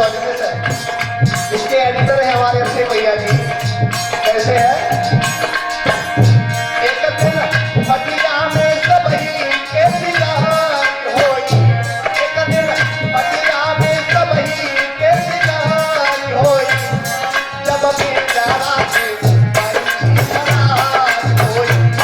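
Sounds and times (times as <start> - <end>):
hand drums beating: 0.0 - 22.0
wavering melodic instrument: 0.0 - 22.0.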